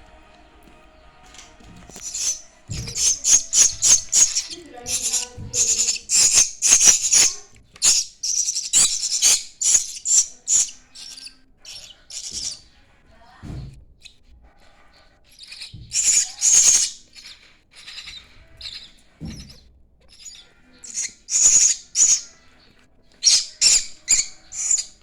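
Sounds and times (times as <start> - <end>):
chicks begging with raspy calls: 0.0 - 12.8, 14.6 - 25.0.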